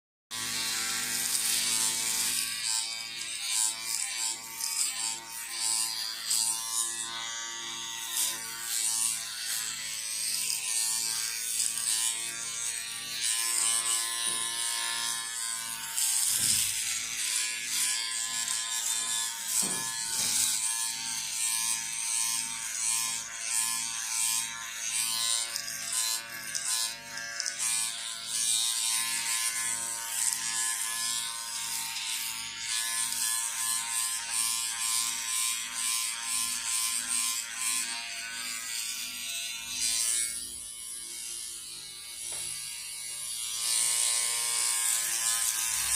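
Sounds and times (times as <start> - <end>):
electric shaver buzzing: 0.3 - 45.9
shaver cutting hair: 0.3 - 45.9.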